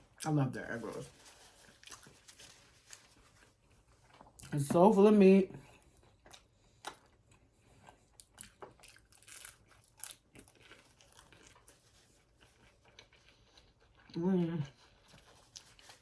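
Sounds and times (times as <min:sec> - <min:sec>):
crunching and chewing food: 0:00.0 - 0:16.0.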